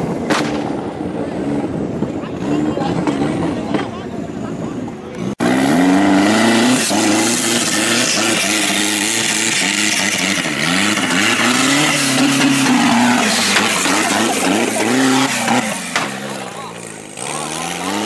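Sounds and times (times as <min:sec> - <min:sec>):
buggy engine revving: 0:00.0 - 0:18.0.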